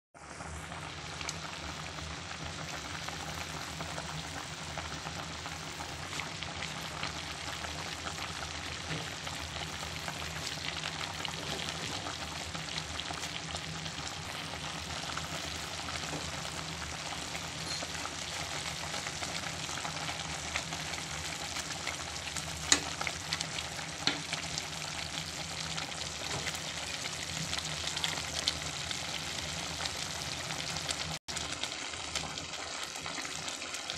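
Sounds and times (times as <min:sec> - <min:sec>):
broth boiling and bubbling: 0:00.2 - 0:33.9.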